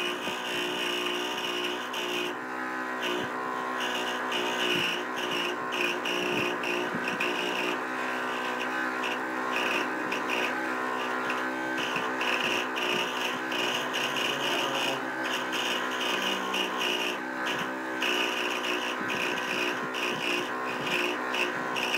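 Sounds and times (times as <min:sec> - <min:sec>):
saw blade rasping through wood: 0:00.0 - 0:21.9
scroll saw humming: 0:00.0 - 0:21.9.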